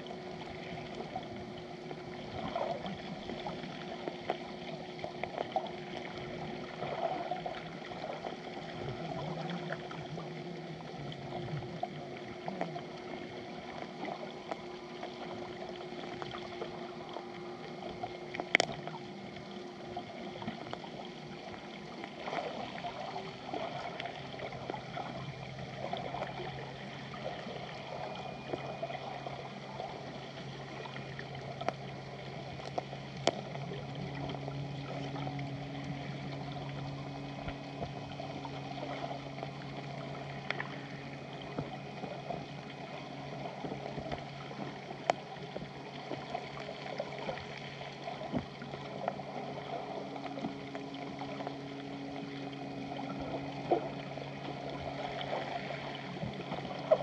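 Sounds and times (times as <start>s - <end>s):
background crackle: 0.0s - 57.0s
distant boat engine underwater: 0.0s - 57.0s.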